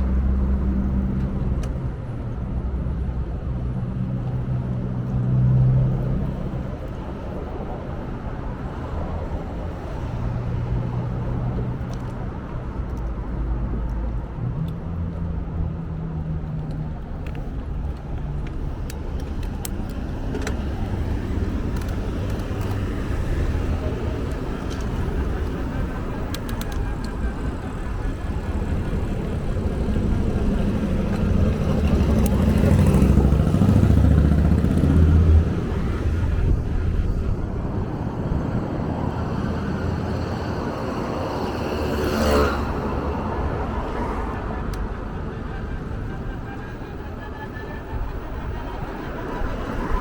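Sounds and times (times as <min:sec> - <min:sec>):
vehicle engine rumble: 0:00.0 - 0:50.0.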